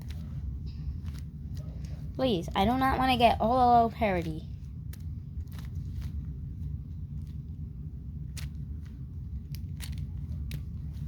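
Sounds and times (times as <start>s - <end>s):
low handling rumble: 0.0s - 11.0s.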